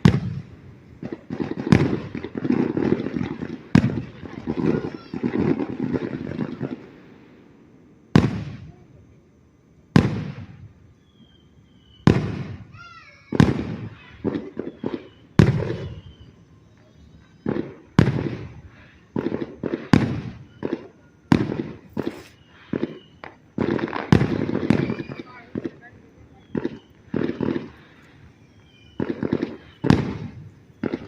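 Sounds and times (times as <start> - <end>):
fireworks bursting with echo: 0.0 - 9.1, 9.9 - 31.0.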